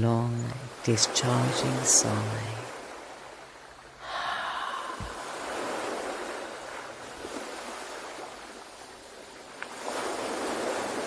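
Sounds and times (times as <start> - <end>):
ocean waves washing onto shore: 0.0 - 11.0.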